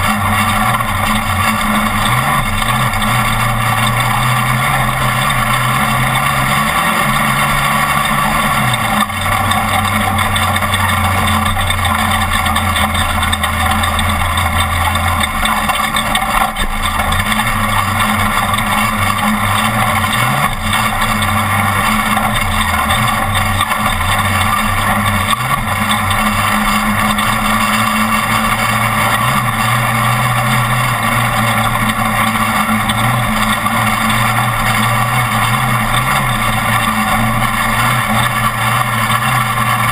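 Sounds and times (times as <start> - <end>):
race truck engine running hard: 0.0 - 39.9.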